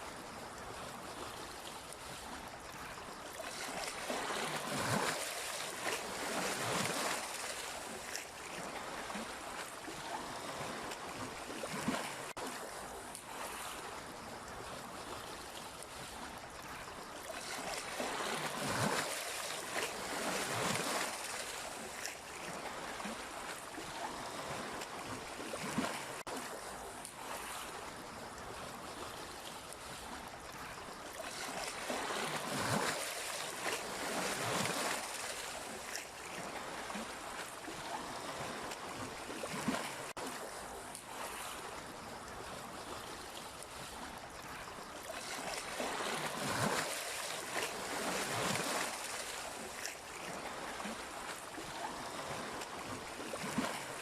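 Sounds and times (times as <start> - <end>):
sea waves washing in: 0.0 - 54.0.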